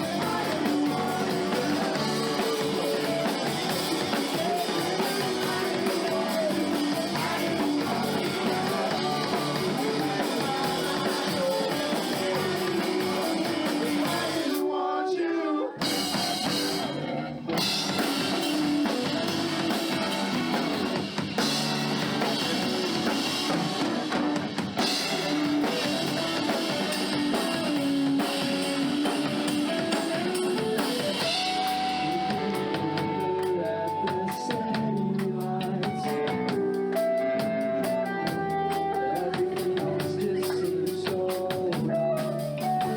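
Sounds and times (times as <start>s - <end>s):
live rock band playing: 0.0s - 14.6s, 15.8s - 42.9s.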